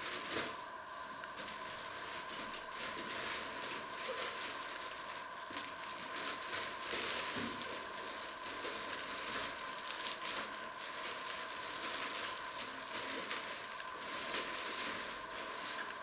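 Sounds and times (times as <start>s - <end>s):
plastic packaging rustling: 0.0s - 16.0s.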